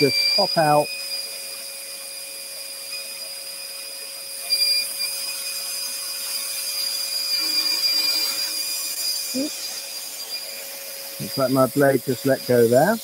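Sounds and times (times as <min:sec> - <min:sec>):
dust extractor whistling: 0:00.0 - 0:13.0
scroll saw cutting wood: 0:00.0 - 0:13.0.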